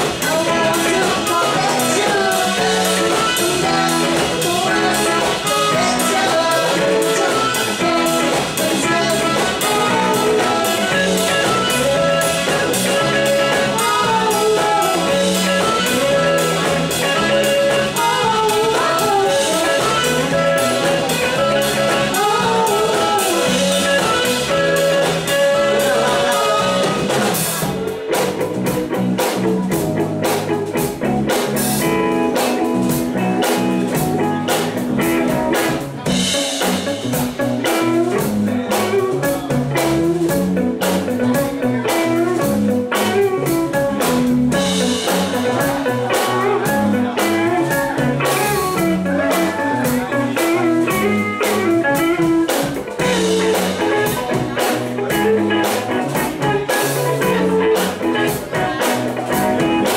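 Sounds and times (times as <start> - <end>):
live funk band playing: 0.0 - 59.9.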